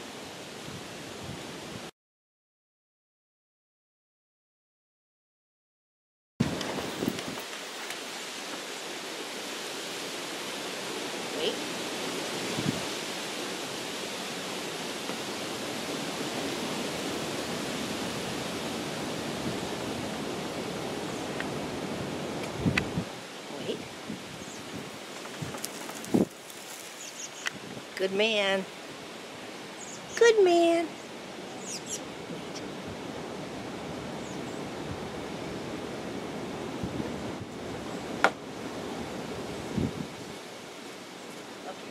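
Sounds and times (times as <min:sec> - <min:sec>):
wind in trees: 0:00.0 - 0:01.9, 0:06.4 - 0:41.9.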